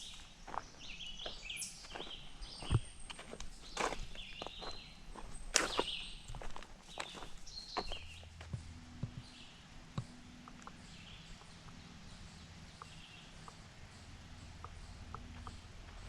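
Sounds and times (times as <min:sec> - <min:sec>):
low steady hum: 0:01.8 - 0:16.0.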